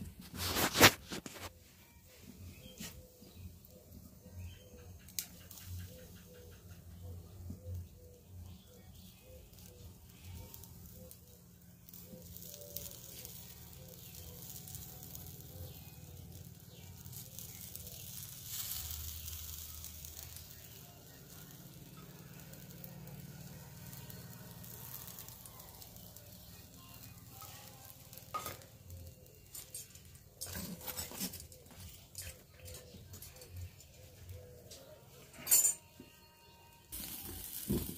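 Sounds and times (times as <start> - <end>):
meat sizzling on a grill: 2.3 - 34.9, 36.9 - 37.9.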